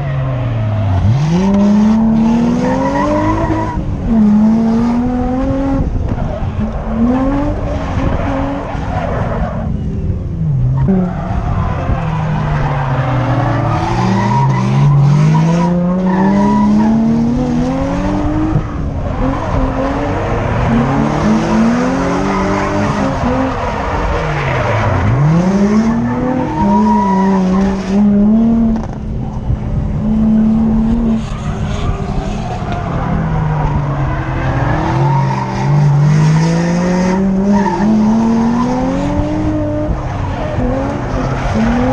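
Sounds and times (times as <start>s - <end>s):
car engine revving: 0.0s - 41.9s
tyres skidding: 0.0s - 41.9s.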